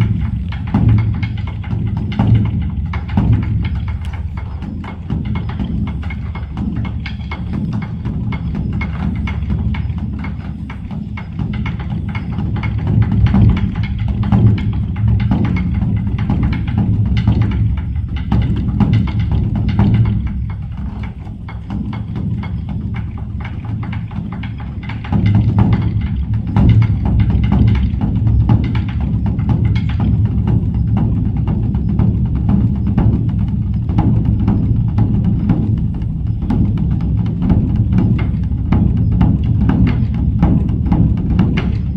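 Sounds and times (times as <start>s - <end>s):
music with drum and percussion beat: 0.0s - 41.9s.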